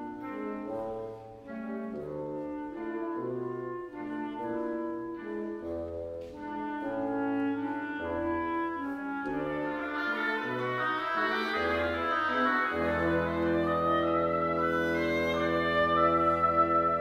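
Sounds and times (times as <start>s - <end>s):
woodwind quintet playing: 0.0s - 17.0s.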